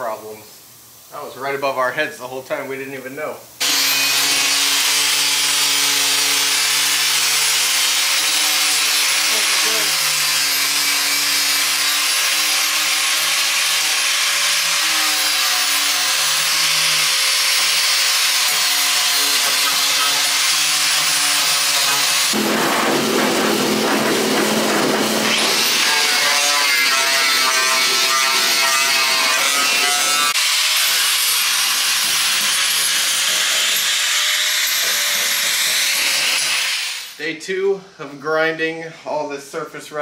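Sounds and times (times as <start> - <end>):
angle grinder grinding metal: 3.6 - 37.2.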